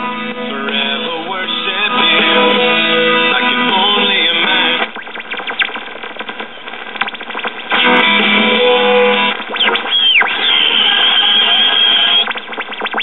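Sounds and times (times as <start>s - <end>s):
radio static crackling: 0.0s - 13.0s
radio station music: 0.0s - 13.0s
high radio whistle: 1.6s - 13.0s.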